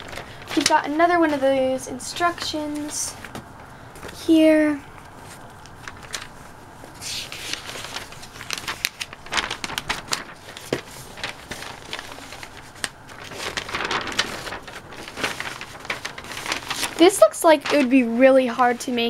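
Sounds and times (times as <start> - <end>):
paper rustling and crinkling: 0.0 - 19.0.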